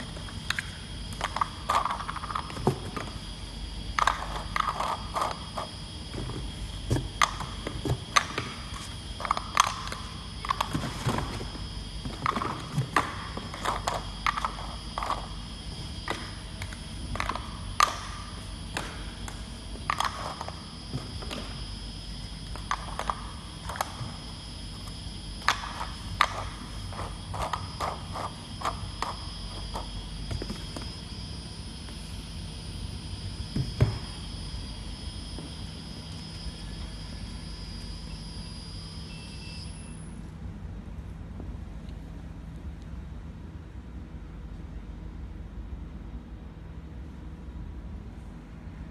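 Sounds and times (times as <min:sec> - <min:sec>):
faint high whines: 0:00.0 - 0:43.1
steady machine hum: 0:00.0 - 0:48.9.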